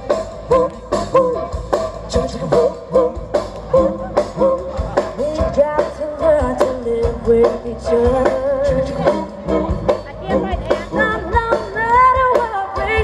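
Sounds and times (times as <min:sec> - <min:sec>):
drum beat: 0:00.0 - 0:13.0
lead singer's voice: 0:00.0 - 0:13.0
live rock band playing: 0:00.0 - 0:13.0.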